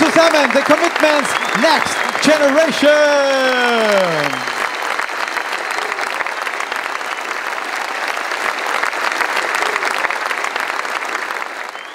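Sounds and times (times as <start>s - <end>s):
large audience applauding: 0.0s - 11.9s.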